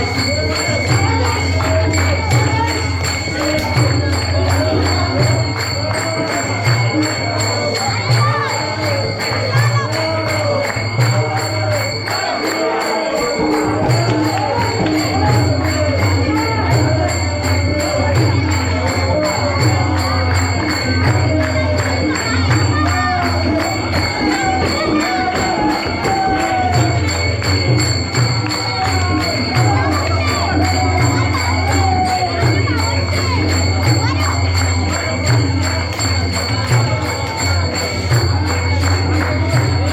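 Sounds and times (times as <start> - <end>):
group of voices singing: 0.0 - 39.9
jingling cymbals or bells: 0.0 - 39.9.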